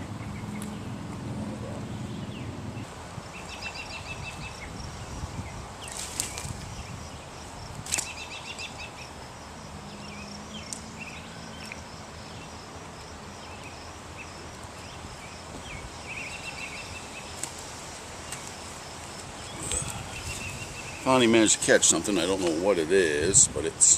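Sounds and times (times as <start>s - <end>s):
small birds chirping: 0.0s - 9.2s, 9.8s - 23.7s.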